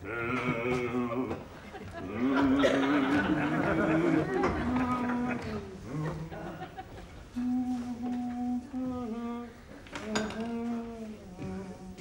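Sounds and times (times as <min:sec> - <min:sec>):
man humming: 0:00.0 - 0:01.4, 0:02.0 - 0:06.6, 0:07.4 - 0:12.0.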